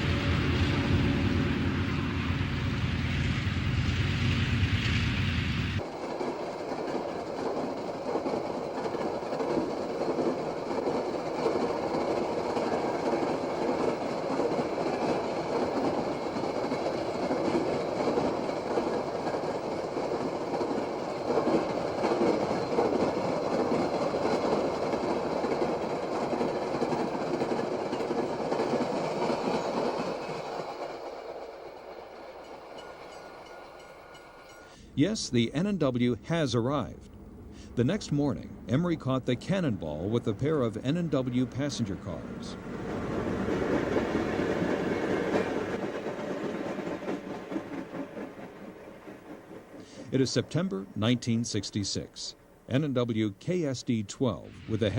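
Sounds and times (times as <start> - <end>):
train wheels clattering on track: 0.0 - 34.8, 40.0 - 51.0.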